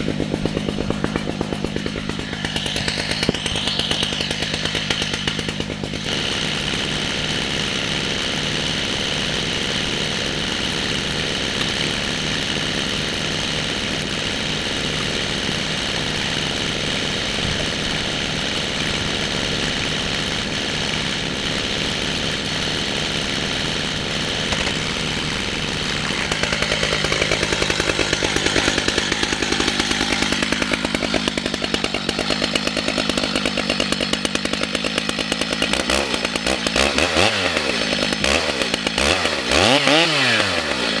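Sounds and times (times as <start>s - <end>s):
chainsaw cutting log: 0.0s - 41.0s.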